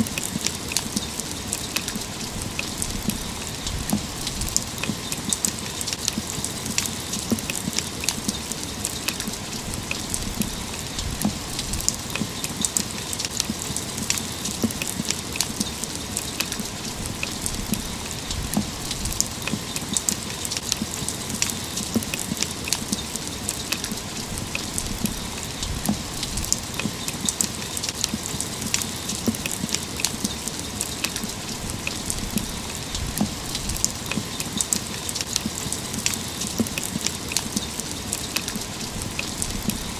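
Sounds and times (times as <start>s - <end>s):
raindrop impacts: 0.0s - 39.9s
steady rain: 0.0s - 39.9s.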